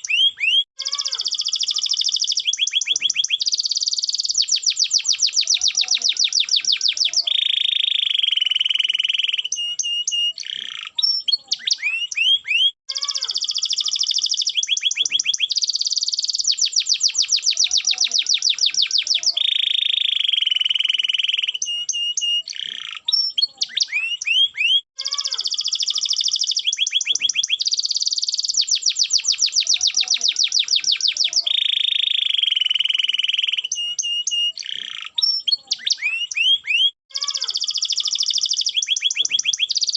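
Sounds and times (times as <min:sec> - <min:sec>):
canary singing trills and whistles: 0:00.0 - 0:39.9.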